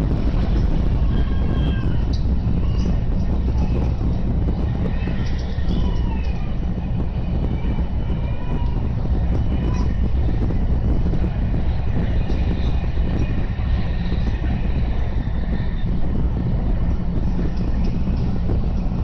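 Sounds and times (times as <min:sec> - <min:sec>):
train cabin rumble and rush: 0:00.0 - 0:19.0.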